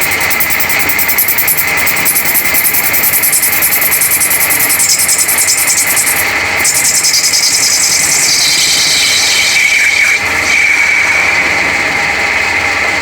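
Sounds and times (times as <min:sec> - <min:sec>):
machine tool cutting metal: 0:00.0 - 0:12.9.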